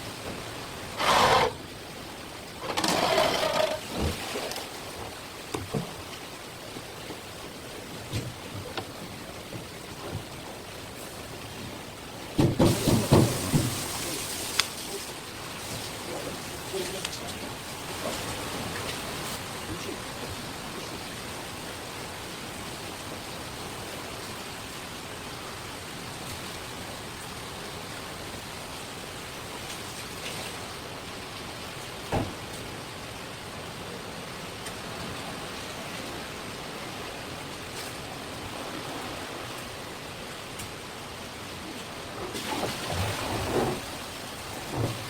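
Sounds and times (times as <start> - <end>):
running water hiss: 0.0 - 45.0.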